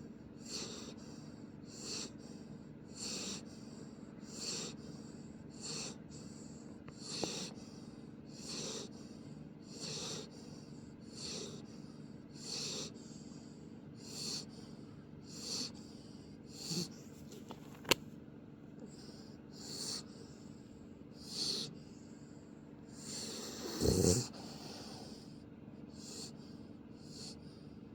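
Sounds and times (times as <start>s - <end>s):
puppy snoring: 0.0s - 17.2s, 18.8s - 27.7s.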